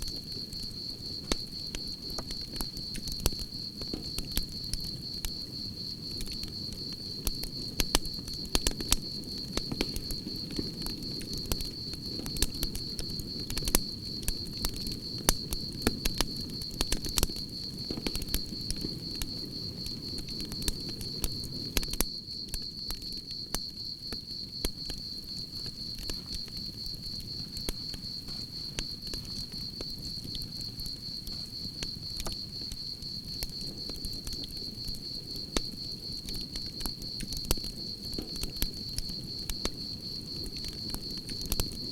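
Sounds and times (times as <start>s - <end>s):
campfire crackling and popping: 0.0s - 41.9s
crickets chirping: 0.0s - 41.9s.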